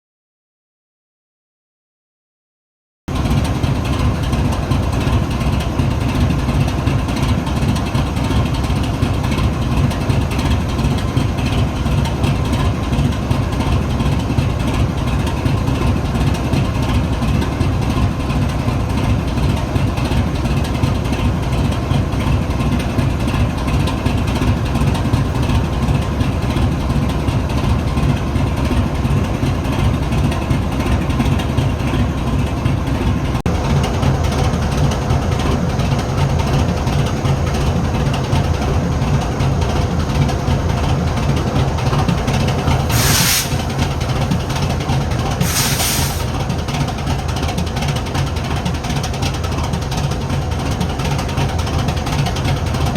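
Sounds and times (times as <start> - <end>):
diesel locomotives idling: 3.1 - 52.9.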